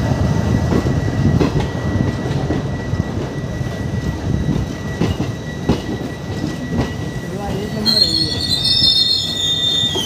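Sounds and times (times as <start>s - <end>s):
diesel train rumbling past: 0.0s - 10.0s.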